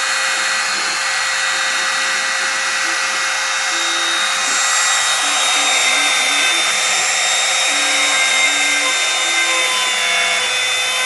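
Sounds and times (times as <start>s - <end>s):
router motor running: 0.0s - 11.0s
stepper motor tones: 0.0s - 11.0s.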